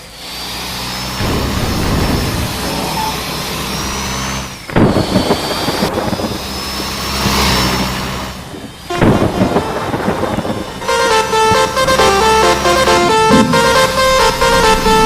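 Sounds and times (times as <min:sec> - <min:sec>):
bus engine running: 0:00.0 - 0:15.0
loud rushes of noise: 0:00.0 - 0:15.0.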